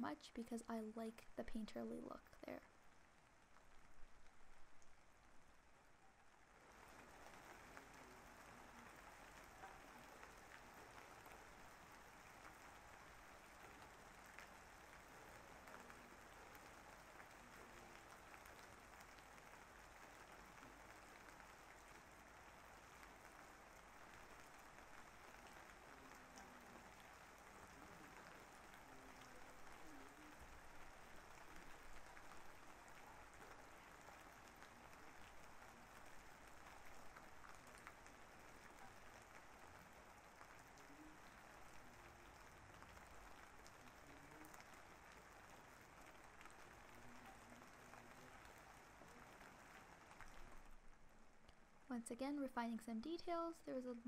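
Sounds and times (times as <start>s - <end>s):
faint rain falling: 0.0s - 54.0s
raindrop ticks: 0.0s - 54.0s.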